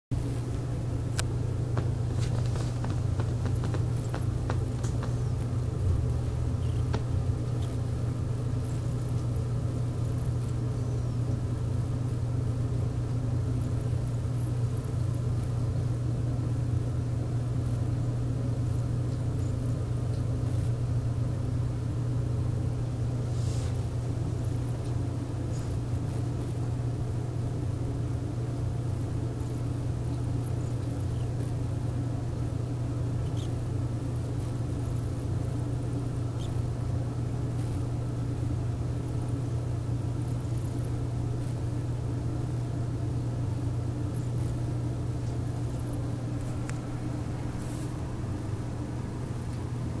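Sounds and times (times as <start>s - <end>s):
low machine hum: 0.1s - 50.0s.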